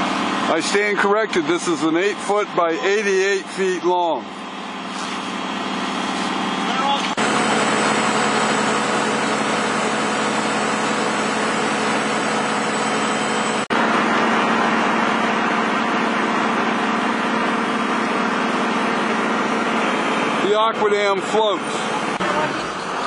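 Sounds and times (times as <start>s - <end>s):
excavator engine idling: 0.0s - 23.0s.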